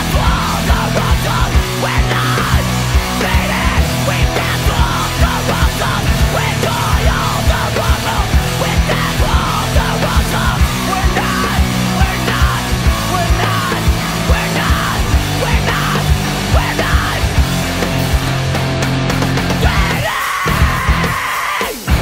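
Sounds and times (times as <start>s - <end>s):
heavy punk or metal music: 0.0s - 22.0s.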